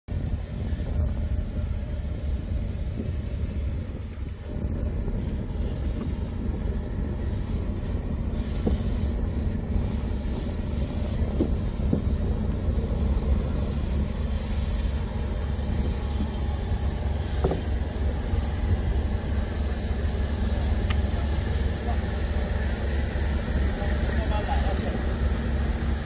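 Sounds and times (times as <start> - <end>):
low rumble with hiss: 0.1 - 26.0.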